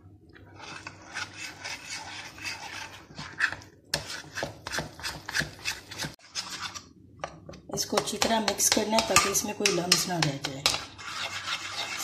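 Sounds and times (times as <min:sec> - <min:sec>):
spoon stirring batter in glass dish: 0:00.1 - 0:12.0.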